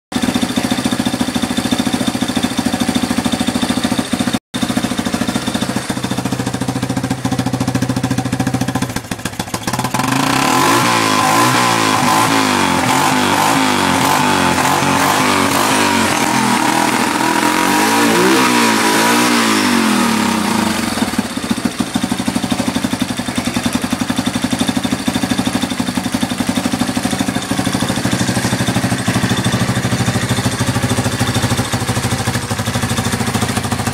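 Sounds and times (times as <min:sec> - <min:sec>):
engine idling and revving: 0:00.1 - 0:33.9.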